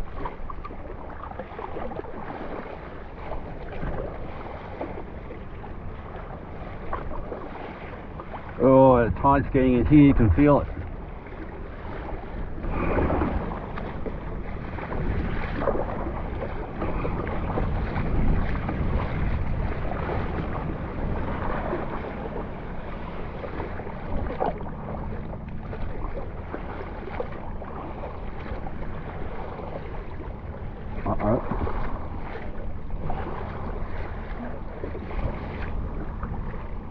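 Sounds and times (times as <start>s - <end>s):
kayak paddling splashes: 0.0s - 36.9s
wind buffeting microphone: 0.0s - 36.9s.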